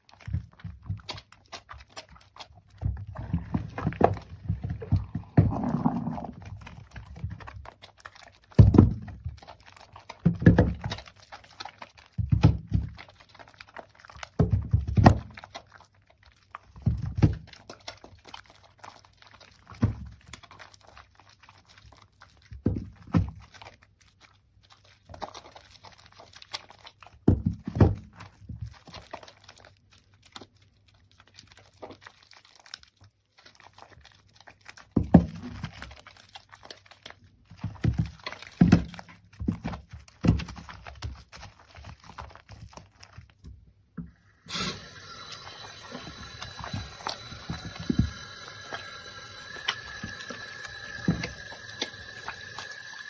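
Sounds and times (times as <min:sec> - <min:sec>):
soap foam squelching: 0:00.0 - 0:53.0.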